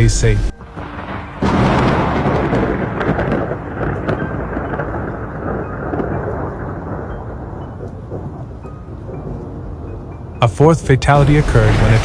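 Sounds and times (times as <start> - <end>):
thunder rumbling: 0.0 - 10.4, 11.1 - 12.0
rain: 0.5 - 12.0.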